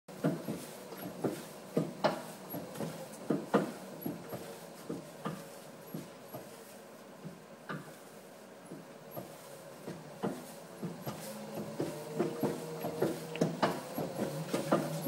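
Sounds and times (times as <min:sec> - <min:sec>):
faint motor hum: 0:00.1 - 0:15.0.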